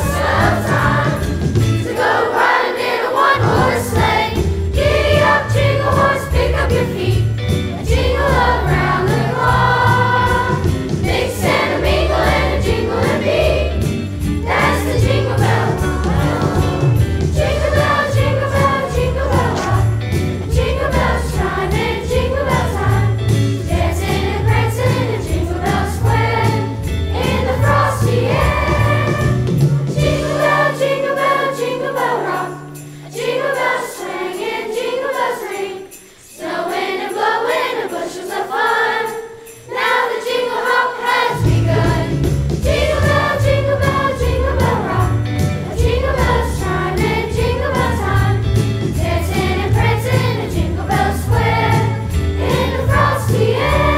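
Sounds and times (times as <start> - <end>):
chorus singing: 0.0 - 53.9
rhythmic instrumental accompaniment: 0.0 - 53.9.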